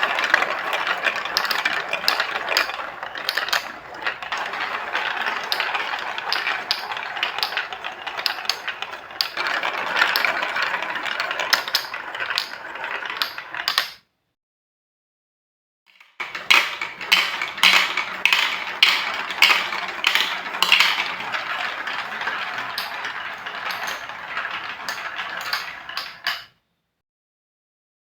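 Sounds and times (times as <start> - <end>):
marbles clacking on plastic track: 0.0 - 14.0, 16.0 - 26.6
marbles rolling rattle: 0.0 - 14.0, 16.0 - 26.5.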